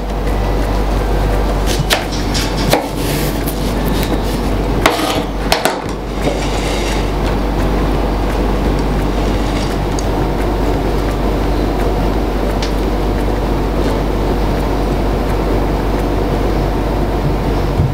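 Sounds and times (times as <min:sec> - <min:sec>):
steady background sound: 0:00.0 - 0:17.9.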